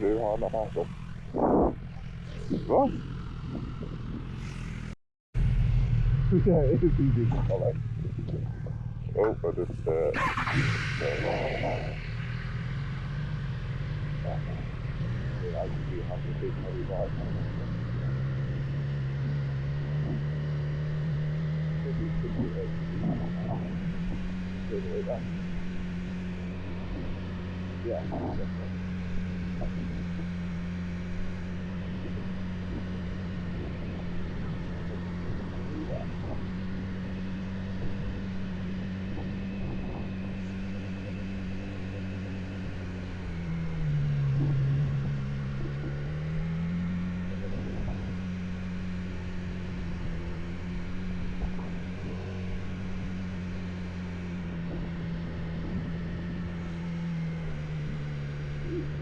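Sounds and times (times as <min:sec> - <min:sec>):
heavy motorcycle engine running: 0:00.0 - 0:59.0.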